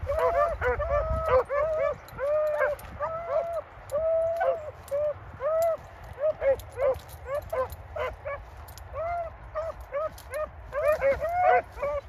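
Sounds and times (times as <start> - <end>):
hounds baying and yelping: 0.0 - 12.0.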